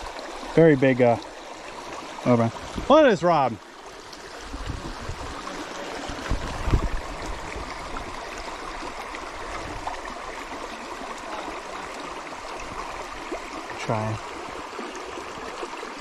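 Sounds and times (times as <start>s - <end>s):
rocky creek flowing: 0.0s - 16.0s.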